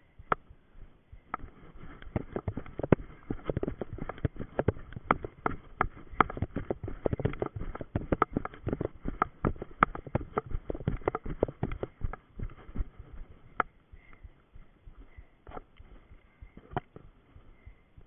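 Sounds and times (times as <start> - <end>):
running footsteps on dirt path: 0.1 - 18.0.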